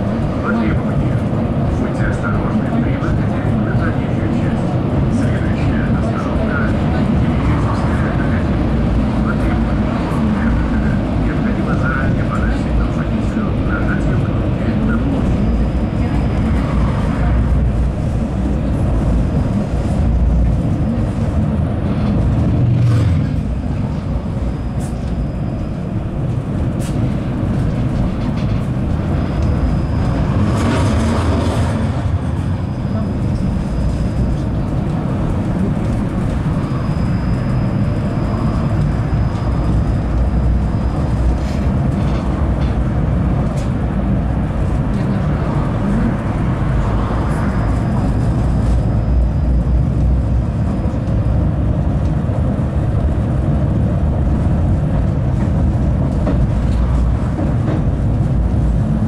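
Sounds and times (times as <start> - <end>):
tram wheels rumbling on rails: 0.0 - 59.0.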